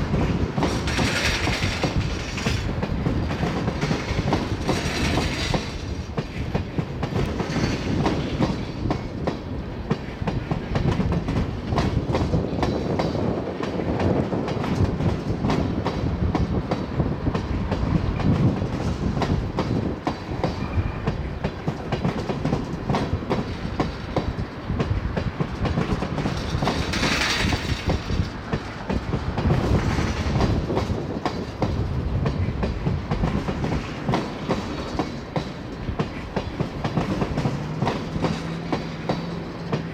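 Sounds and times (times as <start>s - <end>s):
freight train rumbling past: 0.0s - 39.9s
wheels clicking over rail joints: 0.0s - 39.9s.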